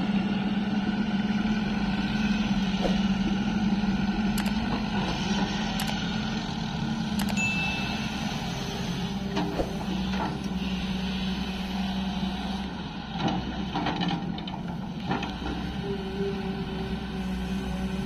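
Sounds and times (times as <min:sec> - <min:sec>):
excavator diesel engine humming: 0:00.0 - 0:18.0.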